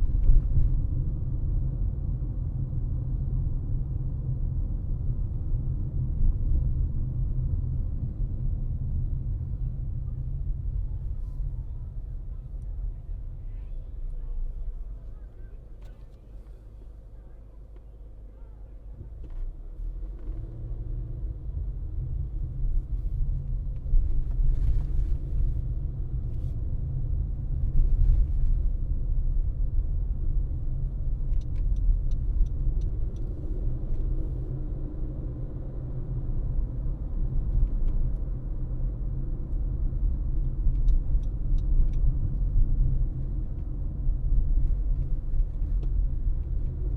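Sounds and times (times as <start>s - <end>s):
car driving rumble: 0.0s - 46.9s.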